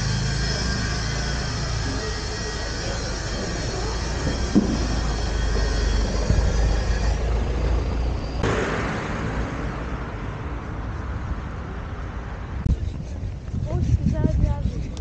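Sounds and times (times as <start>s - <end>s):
road traffic rushing: 0.0s - 15.0s
van engine rumbling: 0.0s - 15.0s.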